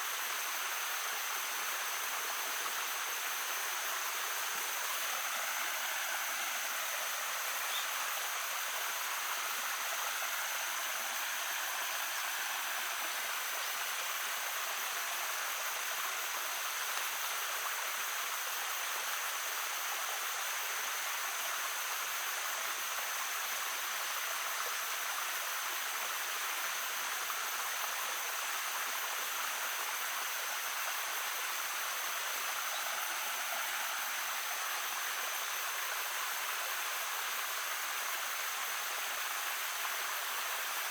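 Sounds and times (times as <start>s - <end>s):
brook babbling: 0.0s - 40.9s.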